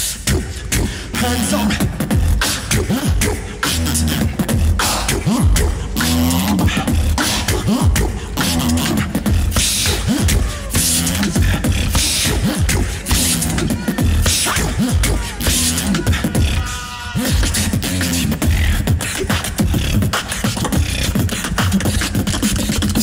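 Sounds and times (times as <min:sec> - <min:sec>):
beatboxing through a microphone: 0:00.0 - 0:23.0.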